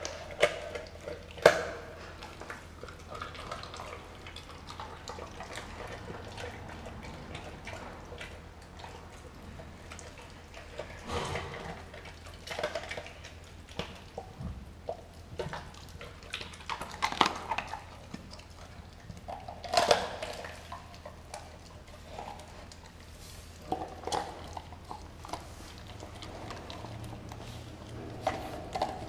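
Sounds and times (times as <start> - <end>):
dog chewing and tearing meat: 0.0 - 29.0.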